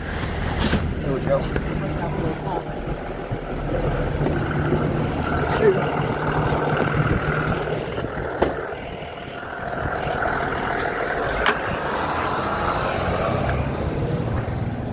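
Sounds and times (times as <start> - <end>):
engine humming: 0.0 - 14.9.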